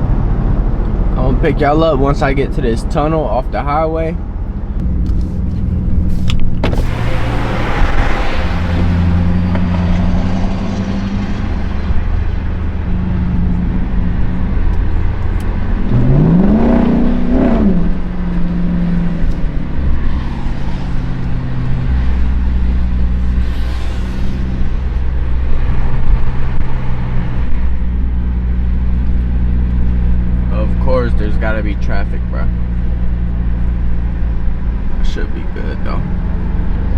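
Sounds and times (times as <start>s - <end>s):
car engine droning at speed: 0.0s - 36.9s.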